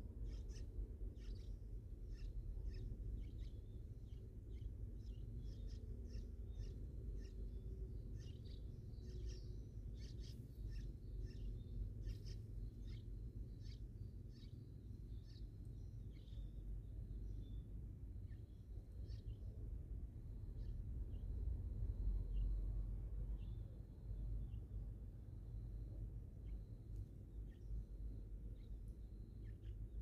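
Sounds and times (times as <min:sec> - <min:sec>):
faint high whine: 0:00.0 - 0:30.0
small birds chirping: 0:00.0 - 0:30.0.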